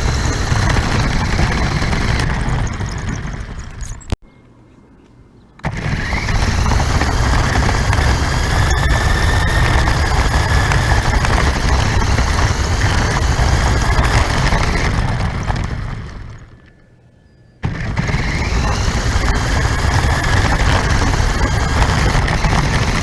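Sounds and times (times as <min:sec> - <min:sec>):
motor whine: 0:00.0 - 0:04.2, 0:05.6 - 0:23.0
rc car rumble and rattle: 0:00.0 - 0:04.2, 0:05.6 - 0:16.8, 0:17.6 - 0:23.0.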